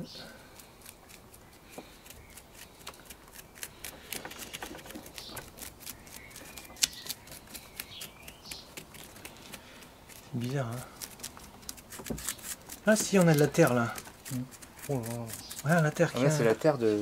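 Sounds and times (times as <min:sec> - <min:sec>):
chopsticks scratching soil: 0:00.4 - 0:17.0.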